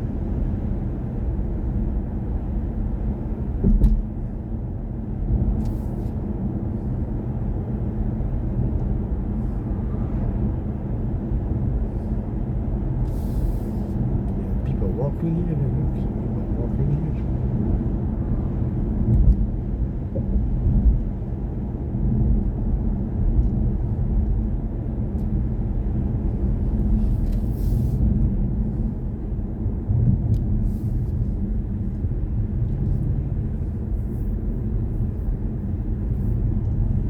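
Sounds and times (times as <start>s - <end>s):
road and tyre rumble: 0.0s - 37.0s.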